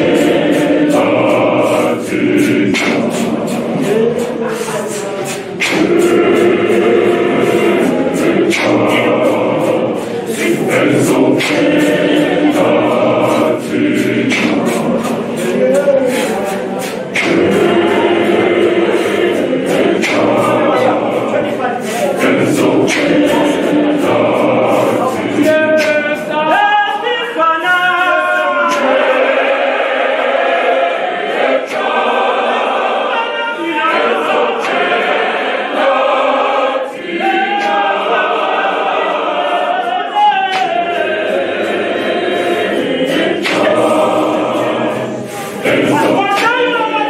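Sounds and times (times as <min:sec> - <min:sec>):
choir singing a hymn: 0:00.0 - 0:47.0
sharp percussive beats: 0:00.0 - 0:47.0.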